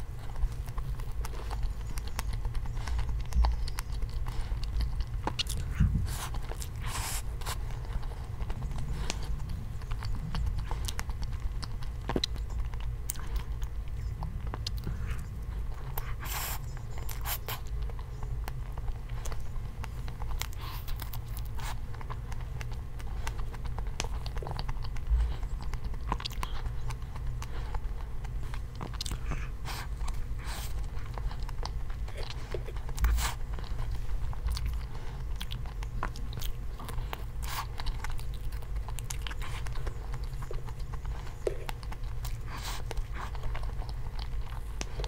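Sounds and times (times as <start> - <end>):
chewing and mouth sounds: 0.0 - 45.0.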